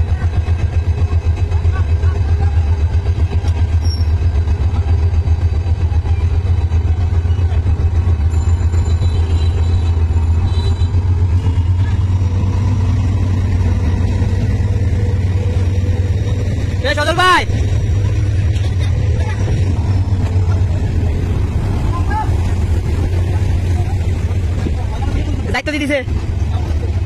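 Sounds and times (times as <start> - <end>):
locomotive engine throbbing: 0.0 - 27.0
train coaches rumbling: 0.0 - 27.0.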